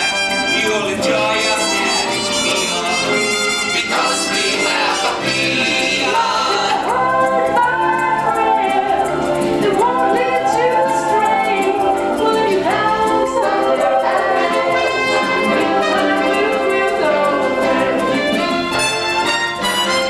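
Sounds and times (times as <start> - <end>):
voices singing: 0.0 - 19.2
band accompaniment: 0.0 - 20.0.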